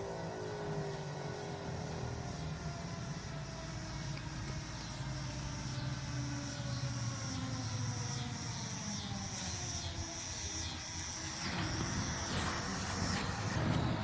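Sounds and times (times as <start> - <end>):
high insect buzz: 0.0 - 14.0
warning siren winding down: 0.0 - 14.0.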